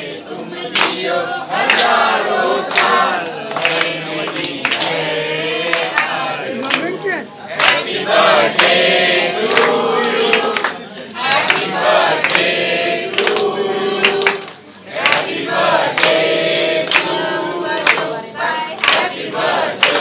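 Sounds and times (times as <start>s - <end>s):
group singing in unison: 0.0s - 6.8s, 7.5s - 20.0s.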